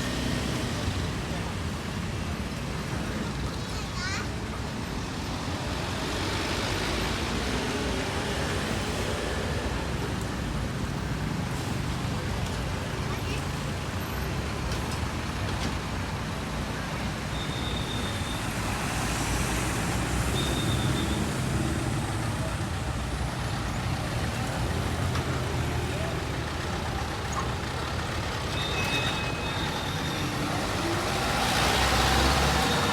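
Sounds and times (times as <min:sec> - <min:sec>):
heavy vehicle engines rumbling: 0:00.0 - 0:32.9
road traffic rushing: 0:00.0 - 0:32.9.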